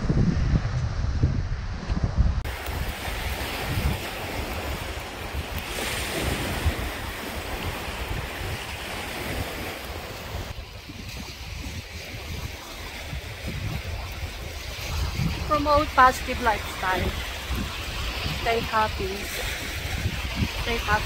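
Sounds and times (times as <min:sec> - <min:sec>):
wind rumbling on microphone: 0:00.0 - 0:21.0
waves breaking on shore: 0:02.4 - 0:21.0.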